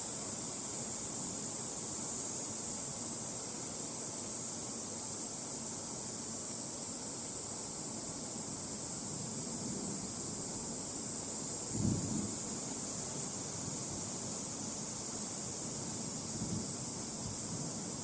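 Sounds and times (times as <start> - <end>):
high-pitched insect chorus: 0.0 - 18.0
low outdoor background noise: 0.0 - 18.0.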